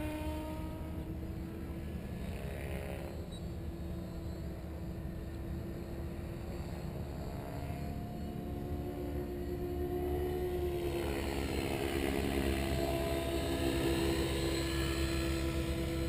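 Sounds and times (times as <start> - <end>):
model helicopter whine: 0.0 - 16.0.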